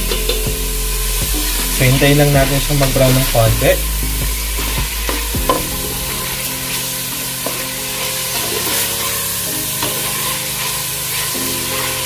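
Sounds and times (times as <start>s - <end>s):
meat sizzling in a pot: 0.0s - 12.0s
soft background music: 0.0s - 12.0s.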